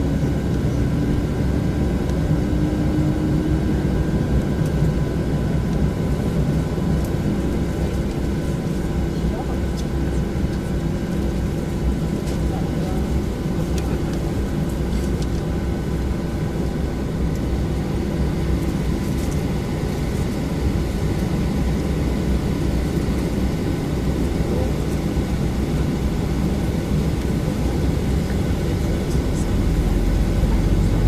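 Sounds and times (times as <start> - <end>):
aircraft cabin rumble and hum: 0.0 - 31.0.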